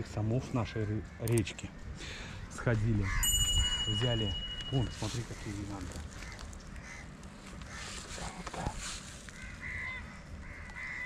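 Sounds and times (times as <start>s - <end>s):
bird calling: 0.0s - 11.0s
outdoor background hiss: 0.0s - 11.0s.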